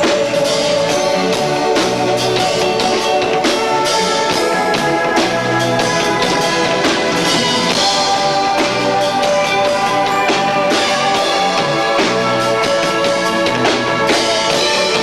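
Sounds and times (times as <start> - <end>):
drums hitting: 0.0 - 15.0
electric guitar: 0.0 - 15.0
live rock band playing: 0.0 - 15.0.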